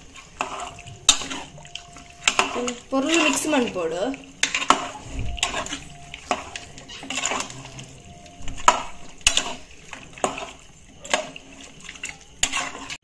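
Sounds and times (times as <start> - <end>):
metal ladle scraping a pot: 0.0 - 13.0.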